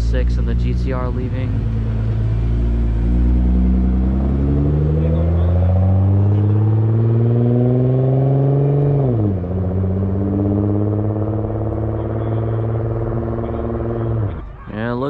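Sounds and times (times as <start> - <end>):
car engine pulling away: 0.0 - 14.8.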